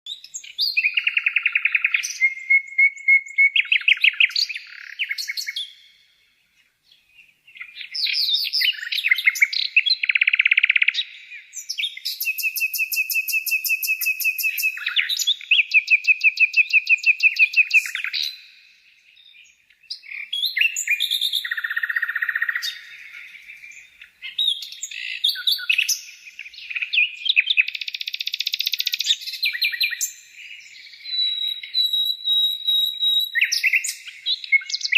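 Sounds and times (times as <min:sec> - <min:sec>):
birds trilling and chirping: 0:06.6 - 0:34.9.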